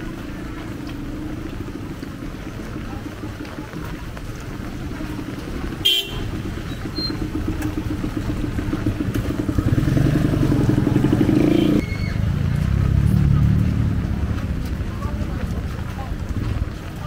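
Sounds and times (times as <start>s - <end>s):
motorcycle engines putter: 0.0s - 17.0s.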